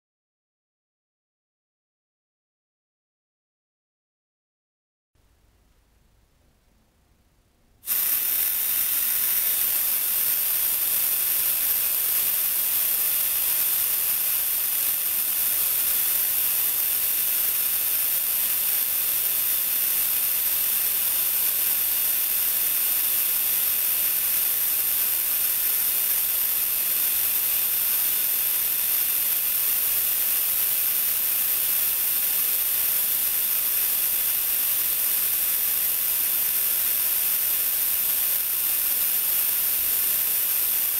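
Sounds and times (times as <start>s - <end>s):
compressed air hissing: 7.8s - 40.9s.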